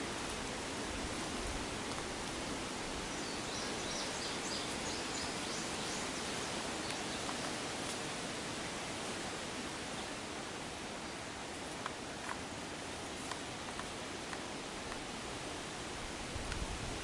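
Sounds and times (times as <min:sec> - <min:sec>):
leaves rustling: 0:00.0 - 0:17.0
woodland hiss: 0:00.0 - 0:17.0.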